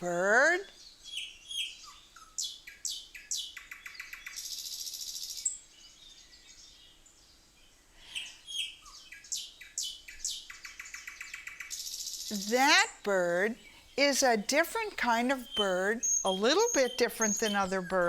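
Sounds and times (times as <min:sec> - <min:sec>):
nightingale singing: 0:00.0 - 0:18.0.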